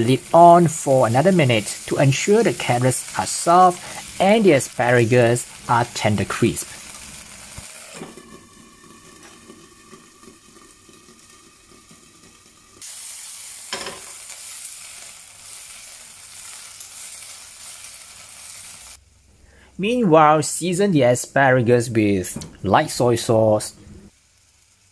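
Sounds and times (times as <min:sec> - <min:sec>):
vegetables sizzling in a frying pan: 0:00.0 - 0:19.2, 0:24.0 - 0:24.9.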